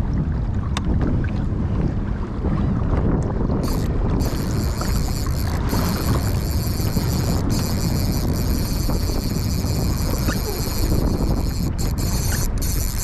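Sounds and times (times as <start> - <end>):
water washing against hull: 0.0 - 13.0
wind buffeting microphone: 0.0 - 13.0.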